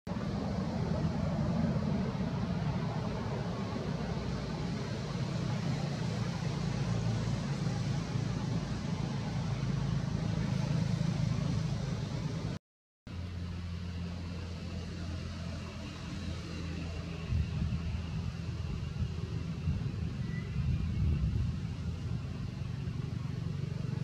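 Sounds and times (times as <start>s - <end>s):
low engine hum: 0.1s - 24.0s.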